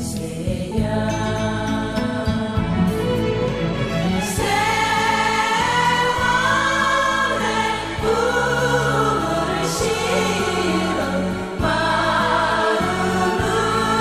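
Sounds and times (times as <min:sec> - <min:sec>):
song with sung vocals: 0:00.0 - 0:14.0.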